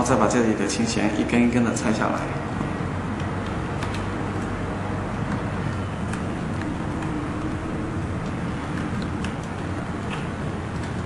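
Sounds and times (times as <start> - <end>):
background rumble and hiss: 0.0 - 11.0.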